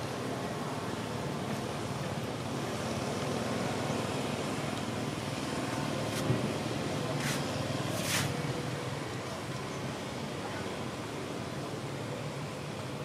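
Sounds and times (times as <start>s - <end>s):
traffic drone: 0.0s - 13.0s.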